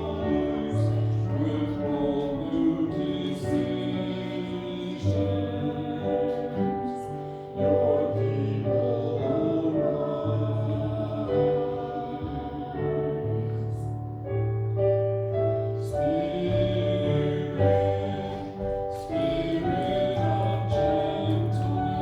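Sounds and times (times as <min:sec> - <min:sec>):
voices singing slow song: 0:00.0 - 0:14.4, 0:15.3 - 0:22.0
keyboard accompaniment: 0:00.0 - 0:22.0.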